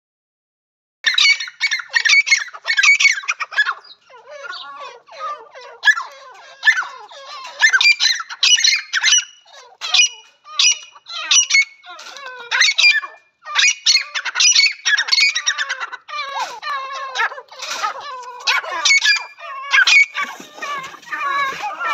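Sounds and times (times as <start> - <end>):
francolins calling: 1.1 - 21.9.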